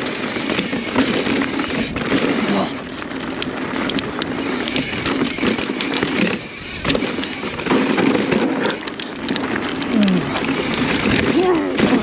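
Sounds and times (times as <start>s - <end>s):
bike clicks and rattles: 0.0s - 12.0s
bike tyres crunching on dirt: 0.0s - 12.0s
rush of riding noise: 0.0s - 12.0s.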